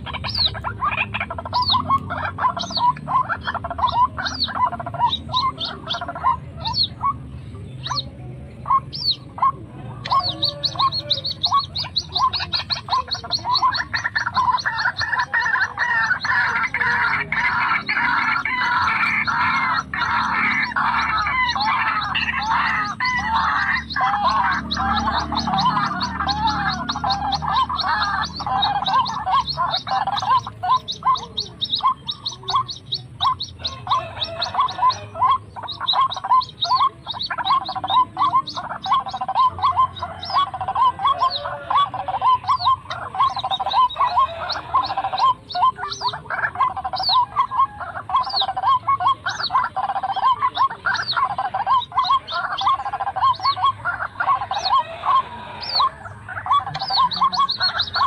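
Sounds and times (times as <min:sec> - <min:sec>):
bird calling repeated notes: 0:07.8 - 0:58.0.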